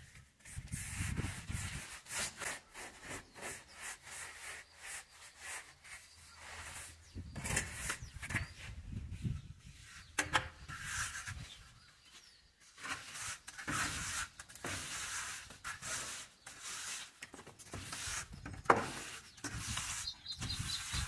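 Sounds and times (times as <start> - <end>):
plaster scraped on wall: 0.1 - 11.6, 12.6 - 21.0
wooden straightedge on surface: 0.4 - 8.8, 9.8 - 11.6, 12.7 - 21.0.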